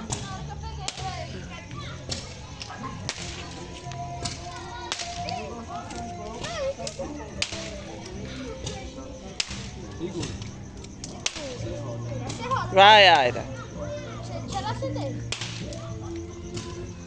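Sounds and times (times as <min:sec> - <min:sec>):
sharp firecracker cracks: 0:00.0 - 0:12.6, 0:15.2 - 0:17.0
distant voices: 0:00.0 - 0:17.0.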